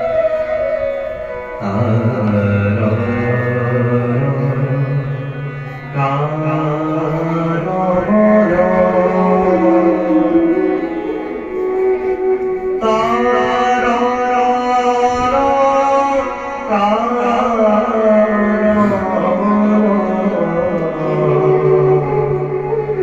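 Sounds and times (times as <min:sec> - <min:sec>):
bamboo flute: 0:00.0 - 0:23.0
man singing devotional song: 0:01.6 - 0:11.5, 0:12.8 - 0:22.7.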